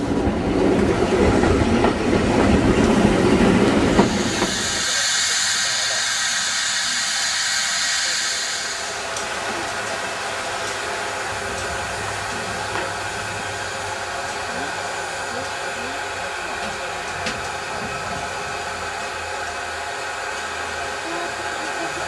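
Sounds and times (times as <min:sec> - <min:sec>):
steam hissing from locomotive: 0:03.4 - 0:22.0.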